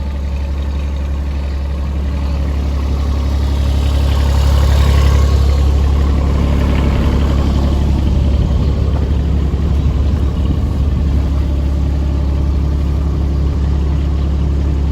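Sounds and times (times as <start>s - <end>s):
excavator diesel engine droning: 0.0s - 14.9s.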